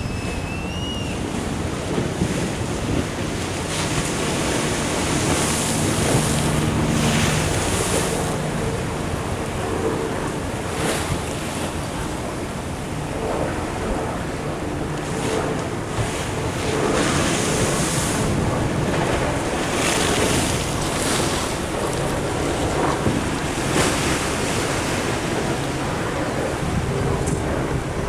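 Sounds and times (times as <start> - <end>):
ocean surf washing in: 0.0 - 13.0, 13.6 - 28.0
wind on microphone: 0.0 - 28.0.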